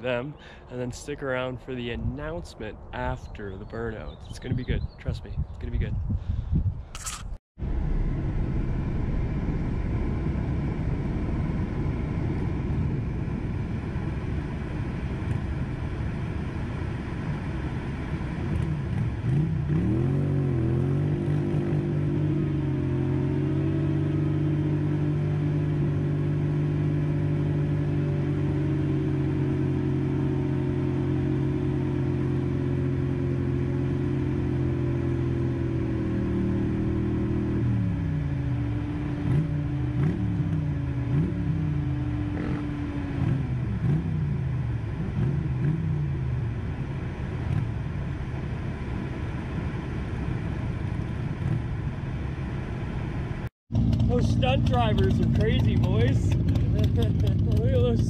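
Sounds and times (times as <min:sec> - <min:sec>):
low engine rumble: 0:00.0 - 0:58.0
motorcycle engine revving: 0:07.0 - 0:58.0.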